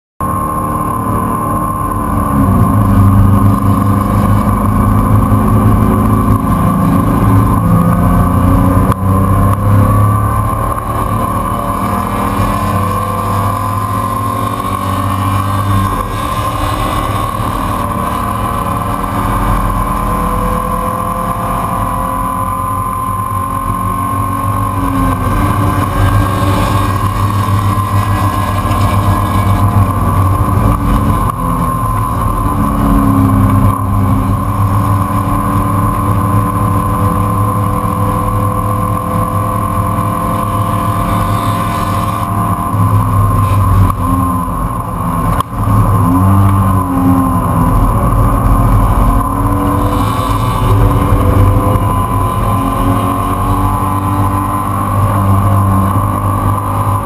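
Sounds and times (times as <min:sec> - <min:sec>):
high whine: 0:00.2 - 0:57.0
race car engine revving: 0:00.2 - 0:57.0.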